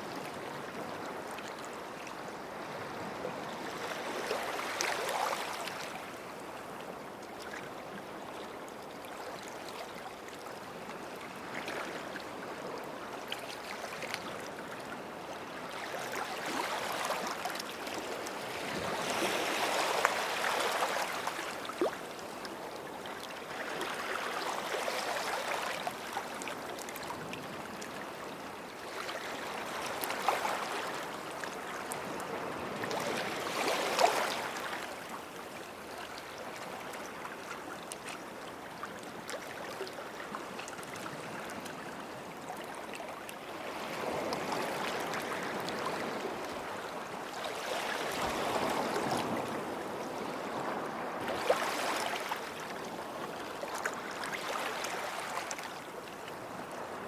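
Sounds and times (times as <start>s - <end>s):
sea waves lapping at shore: 0.0s - 57.0s.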